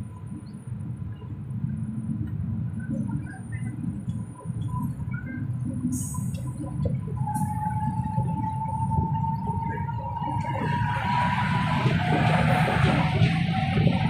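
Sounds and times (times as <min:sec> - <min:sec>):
train coach rumbling on rails: 0:00.0 - 0:14.0.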